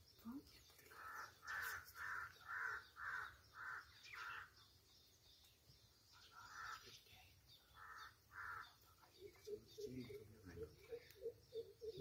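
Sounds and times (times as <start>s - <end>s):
bird calling: 0.2s - 12.0s.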